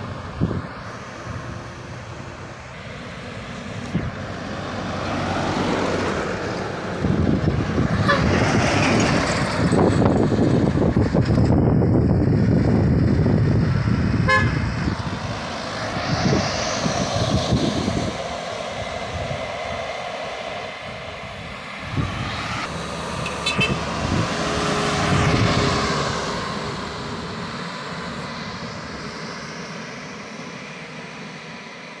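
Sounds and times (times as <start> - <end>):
traffic engine and tyre noise: 0.0 - 32.0.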